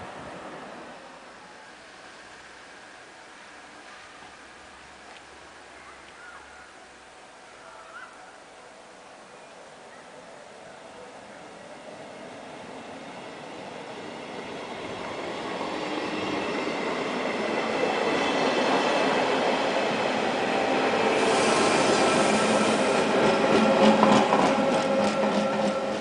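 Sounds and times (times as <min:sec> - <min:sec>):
electric train passing: 0:00.0 - 0:07.8, 0:08.4 - 0:26.0.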